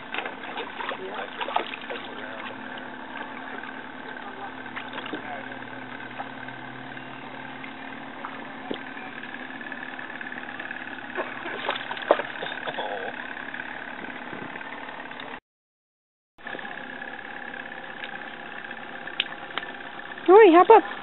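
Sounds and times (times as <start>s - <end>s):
boat motor idling: 0.0s - 15.4s, 16.4s - 21.0s.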